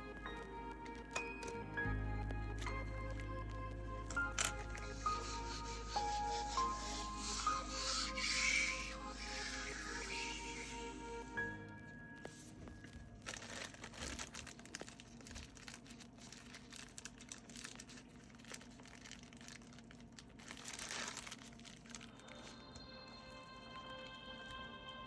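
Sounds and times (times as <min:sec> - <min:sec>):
packaging crinkling and rustling: 0:00.0 - 0:24.6.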